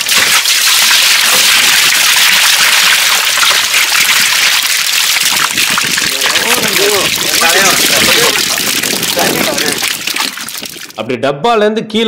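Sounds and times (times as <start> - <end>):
water gushing and splashing: 0.0 - 11.0.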